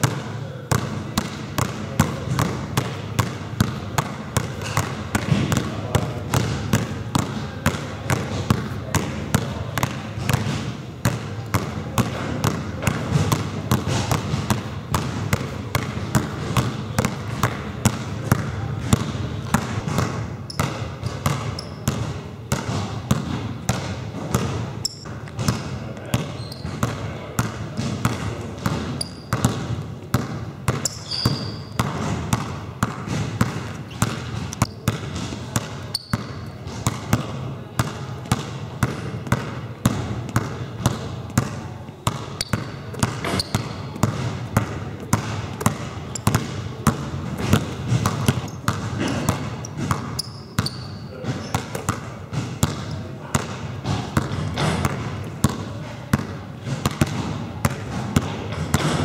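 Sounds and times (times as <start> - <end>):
basketballs dribbling on hall floor: 0.0 - 59.0.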